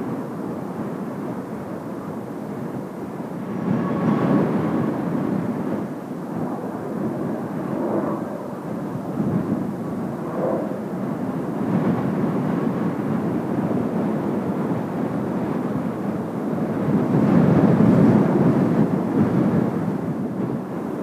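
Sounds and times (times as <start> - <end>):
jet engines low noise: 0.0 - 21.0.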